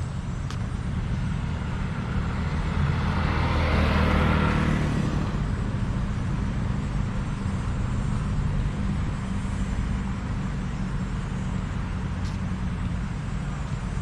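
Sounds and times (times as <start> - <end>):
low traffic rumble: 0.0 - 14.0
vehicle passing close by: 1.0 - 14.0.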